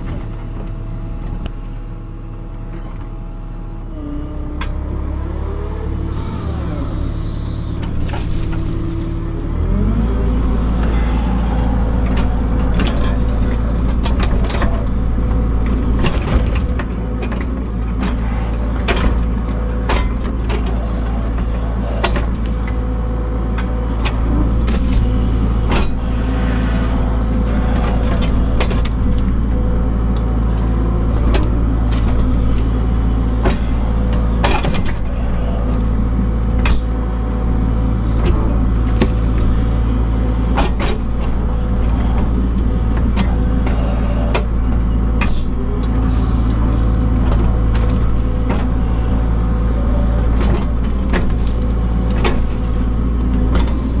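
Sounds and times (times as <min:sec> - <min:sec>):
machine engine running: 0:00.0 - 0:54.0.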